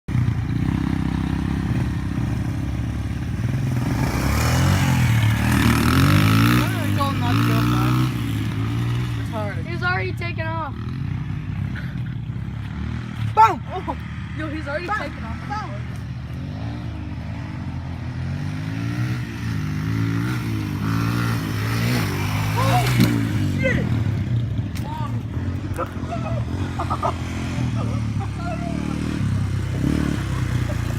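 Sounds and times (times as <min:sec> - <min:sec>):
dirt bike engine revving: 0:00.1 - 0:30.9.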